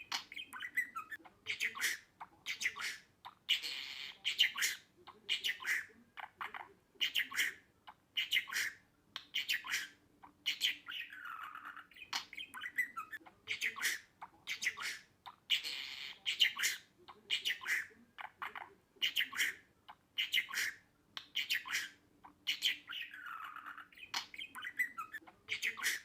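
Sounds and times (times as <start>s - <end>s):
budgerigar chirping and warbling: 0.0s - 26.0s.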